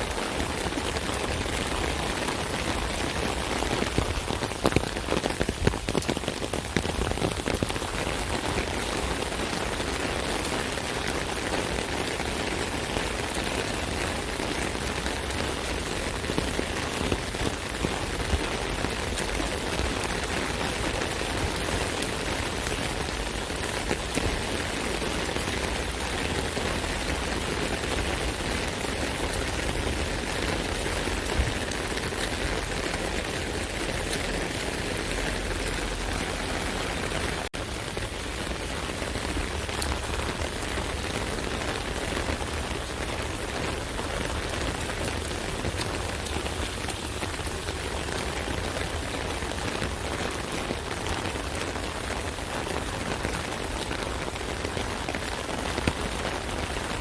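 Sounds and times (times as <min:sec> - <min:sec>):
rain pattering on umbrella: 0:00.0 - 0:57.0.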